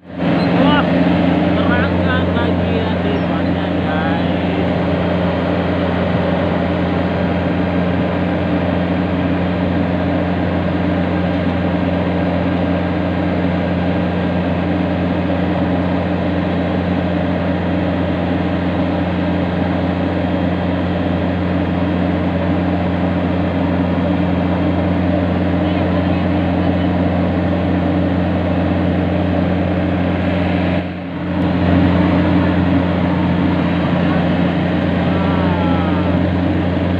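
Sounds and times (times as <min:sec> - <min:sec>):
diesel engine droning: 0:00.0 - 0:36.9.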